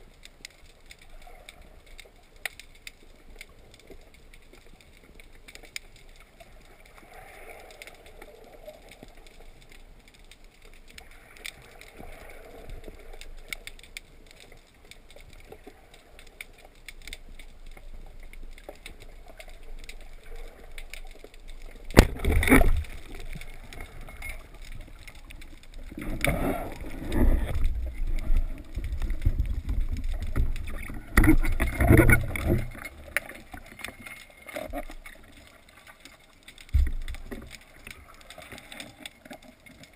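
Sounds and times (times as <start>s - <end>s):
small clicks: 0.0s - 39.9s.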